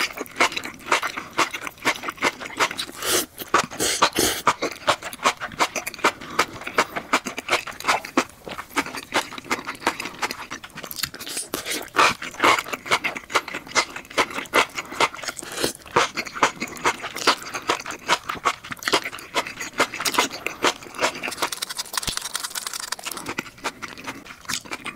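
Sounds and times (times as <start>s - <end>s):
wet slurping and chewing: 0.0s - 24.9s.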